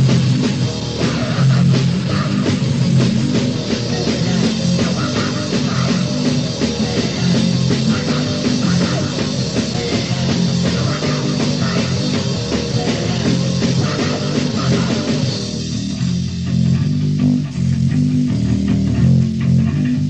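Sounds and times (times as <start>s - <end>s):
distorted punk music: 0.0s - 20.0s.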